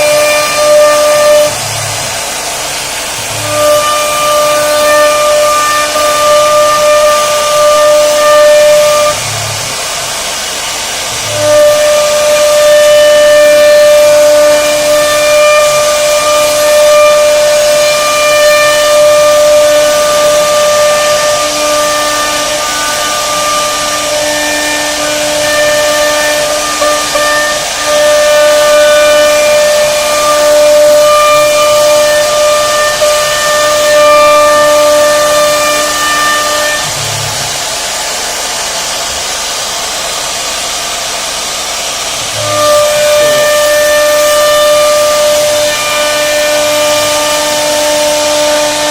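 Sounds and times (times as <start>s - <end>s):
hiss of wood cutting: 0.0s - 48.9s
router spindle high whine: 0.0s - 48.9s.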